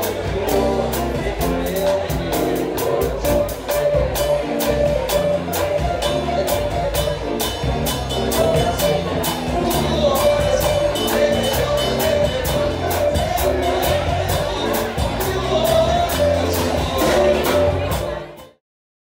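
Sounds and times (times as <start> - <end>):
latin band music with vocals: 0.0 - 18.6.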